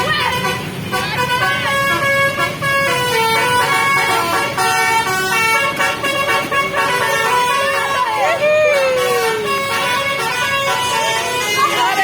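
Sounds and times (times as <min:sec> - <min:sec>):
musical bus horn playing a tune: 0:00.0 - 0:12.0.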